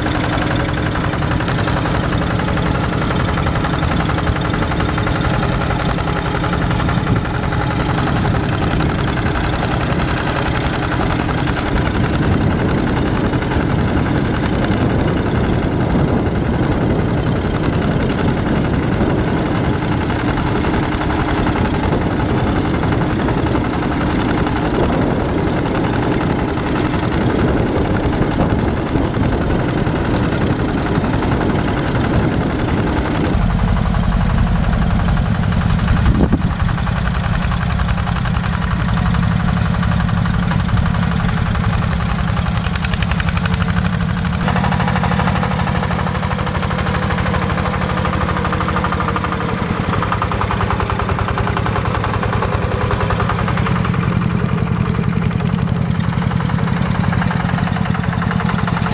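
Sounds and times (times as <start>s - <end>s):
diesel tractor engine running: 0.0s - 58.9s.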